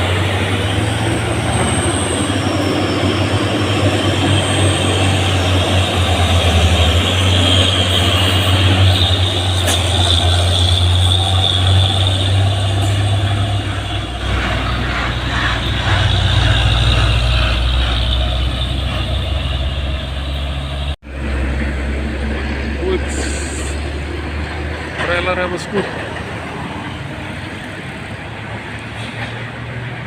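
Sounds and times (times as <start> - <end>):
truck diesel engine under load: 0.0 - 30.0.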